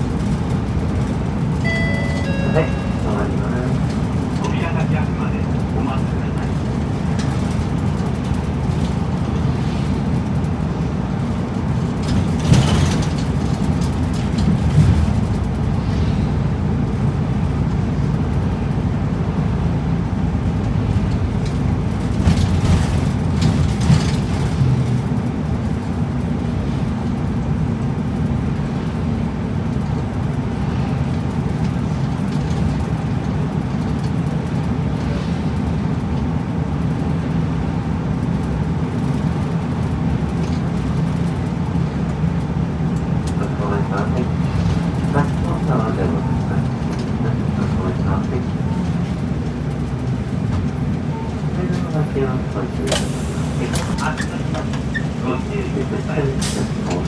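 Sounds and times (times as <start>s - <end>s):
bus engine hum and road noise: 0.0s - 57.0s.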